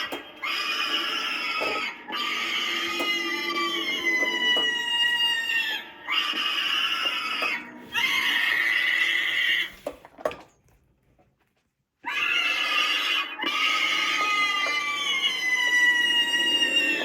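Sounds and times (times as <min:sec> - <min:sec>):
recorded high scream: 0:00.0 - 0:09.8, 0:12.0 - 0:17.0.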